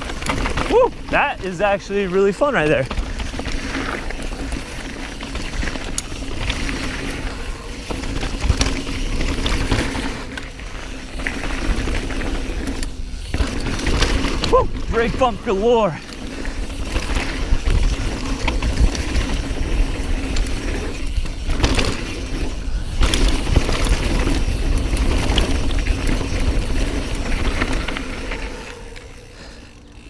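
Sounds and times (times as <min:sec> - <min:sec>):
mountain bike rattling: 0:00.0 - 0:30.0.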